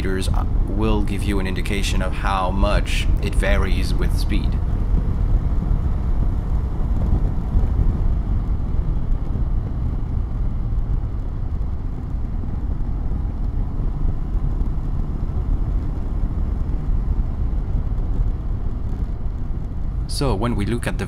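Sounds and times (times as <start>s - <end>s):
wind rumble in motorcycle helmet: 0.0s - 21.0s.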